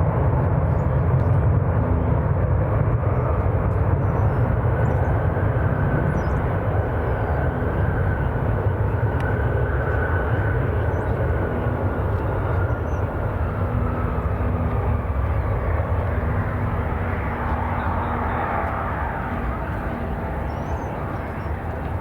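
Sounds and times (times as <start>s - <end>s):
jet engines rumbling: 0.0s - 22.0s
faint high whine: 4.0s - 22.0s.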